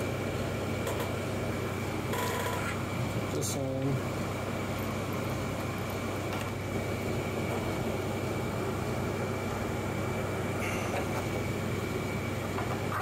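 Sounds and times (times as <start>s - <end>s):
machine hum with whine: 0.0s - 13.0s.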